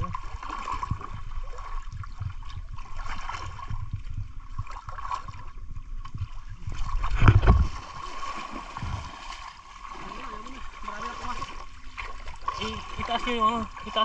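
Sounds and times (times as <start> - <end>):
deep surge of water: 0.0 - 14.0
river water sloshing and splashing: 0.0 - 14.0.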